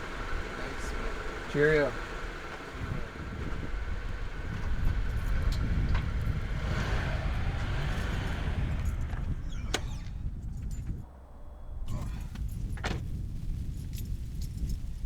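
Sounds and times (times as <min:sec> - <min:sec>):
car engine running: 0:00.0 - 0:14.3.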